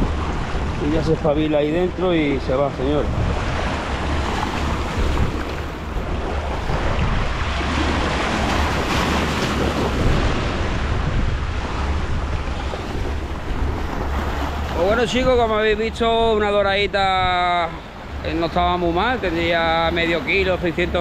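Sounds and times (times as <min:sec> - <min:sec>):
waves breaking against rocks: 0:00.0 - 0:21.0
wind buffeting microphone: 0:00.0 - 0:21.0.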